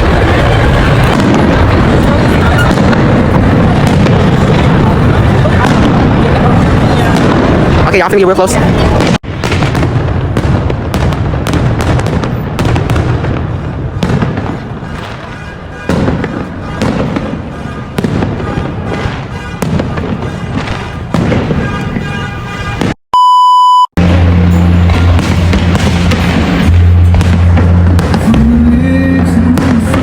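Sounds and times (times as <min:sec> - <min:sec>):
fireworks bangs and crackles: 0:00.0 - 0:23.0, 0:24.0 - 0:30.0
heavy fireworks booms: 0:00.0 - 0:23.0, 0:24.0 - 0:30.0.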